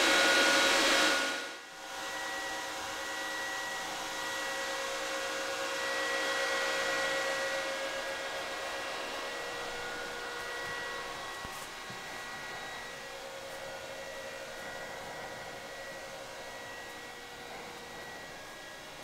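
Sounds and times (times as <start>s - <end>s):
cooling fans whining: 0.0s - 19.0s.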